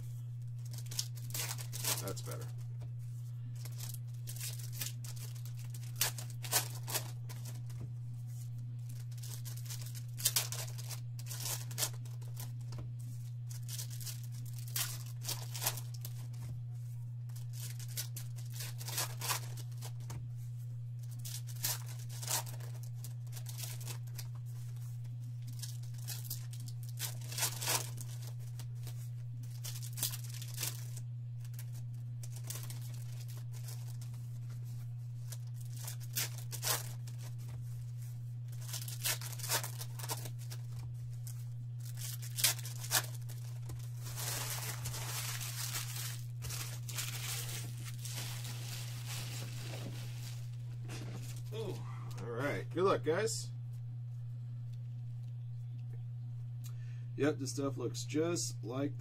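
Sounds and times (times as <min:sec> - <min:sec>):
steady low hum: 0:00.0 - 0:59.0
foil wrappers tearing and crinkling: 0:00.4 - 0:02.6, 0:03.5 - 0:07.8, 0:08.4 - 0:16.5, 0:17.3 - 0:20.2, 0:21.0 - 0:37.7, 0:38.5 - 0:51.6.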